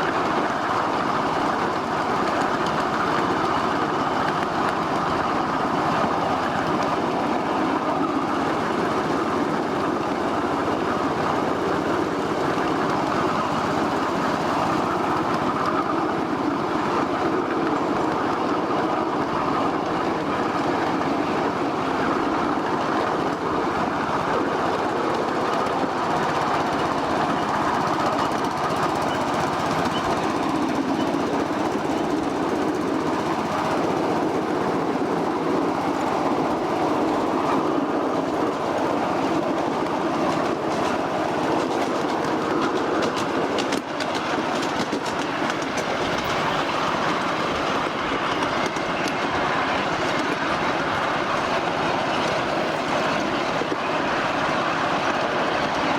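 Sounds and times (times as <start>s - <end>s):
miniature train wheels clattering: 0.0s - 55.9s.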